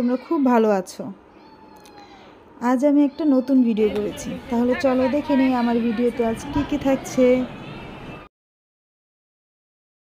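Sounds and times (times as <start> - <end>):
background noise: 0.0 - 8.3.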